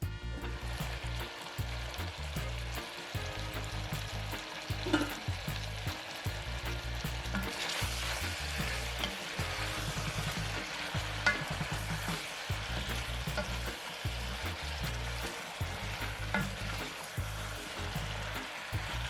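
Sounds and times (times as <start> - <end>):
food sizzling in a pan: 0.4 - 19.0.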